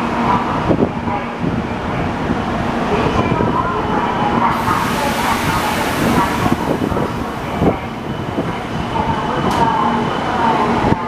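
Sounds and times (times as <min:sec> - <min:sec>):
train rushing: 0:02.1 - 0:11.0.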